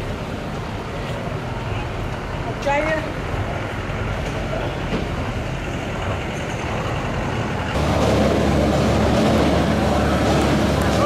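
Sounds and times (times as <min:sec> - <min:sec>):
continuous rushing hiss: 0:00.0 - 0:11.0
engine rumble: 0:00.0 - 0:11.0.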